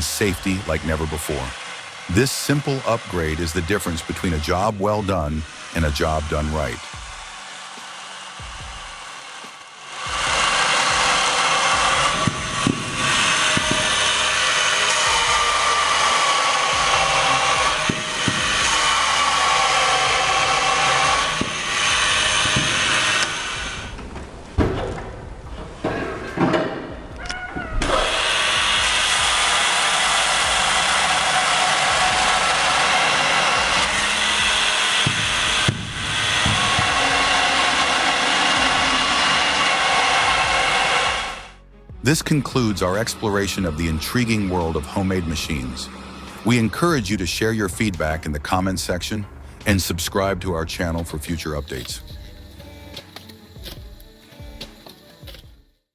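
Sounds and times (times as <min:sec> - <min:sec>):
power saw running: 0:00.0 - 0:27.1, 0:27.8 - 0:55.6.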